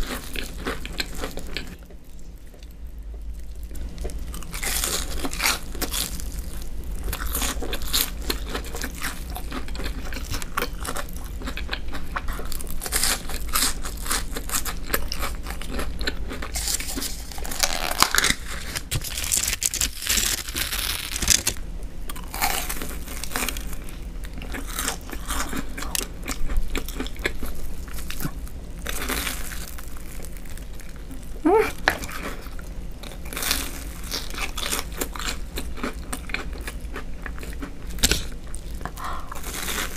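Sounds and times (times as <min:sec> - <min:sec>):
crunchy eating: 0:00.0 - 0:39.9.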